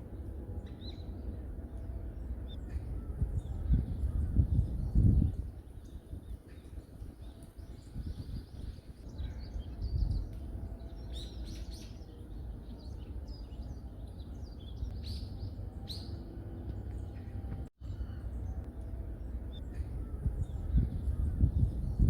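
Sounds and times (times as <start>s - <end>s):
songbirds chirping: 0.0s - 22.0s
steady low rumble: 0.0s - 22.0s.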